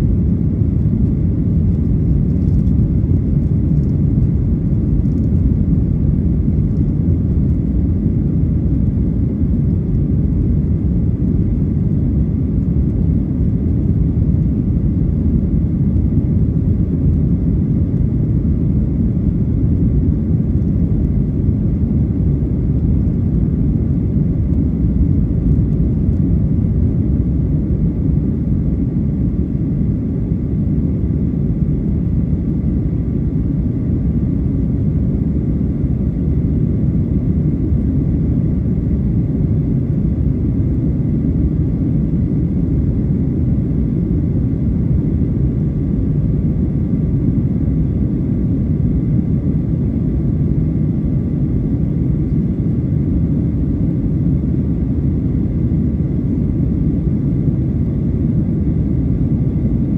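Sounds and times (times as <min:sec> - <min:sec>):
airplane cabin rumble: 0:00.0 - 0:59.9
faint steady whine: 0:00.0 - 0:59.9.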